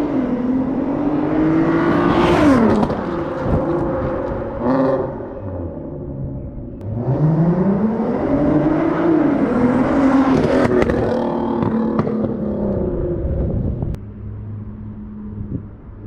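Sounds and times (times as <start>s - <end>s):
car engine revving: 0.0s - 15.7s.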